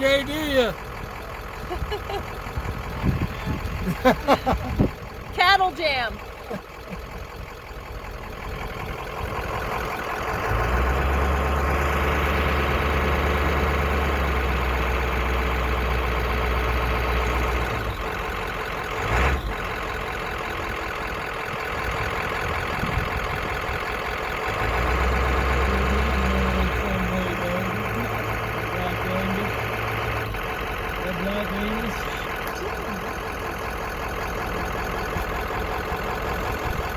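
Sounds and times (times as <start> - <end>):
truck engine idling: 0.0 - 36.9.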